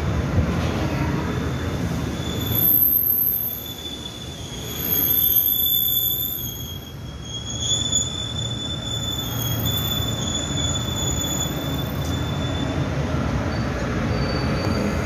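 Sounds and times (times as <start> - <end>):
rolling train rumble: 0.0 - 15.0
train wheels squealing on rails: 0.6 - 15.0.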